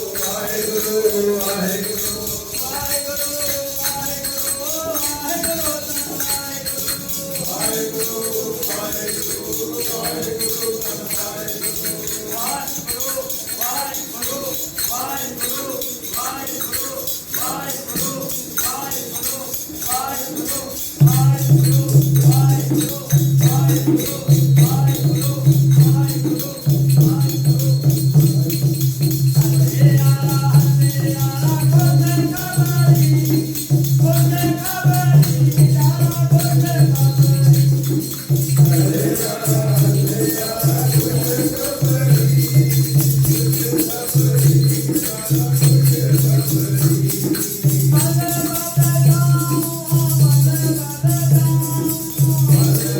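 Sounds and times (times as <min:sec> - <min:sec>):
hymn singing with instruments: 0:00.0 - 0:52.9
jingling rattling percussion: 0:00.0 - 0:52.9.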